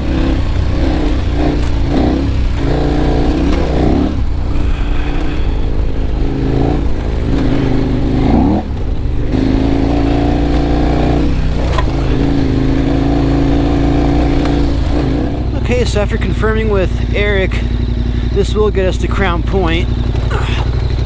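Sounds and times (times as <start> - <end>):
motorcycle engine revving under load: 0.0 - 21.0.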